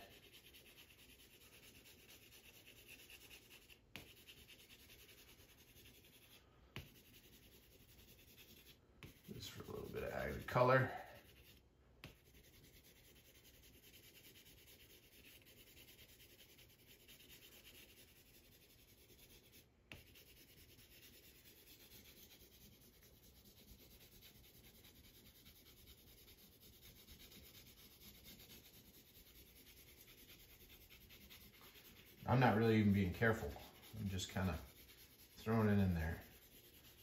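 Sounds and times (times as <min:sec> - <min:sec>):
pencil scratching on paper: 0:00.0 - 0:37.0.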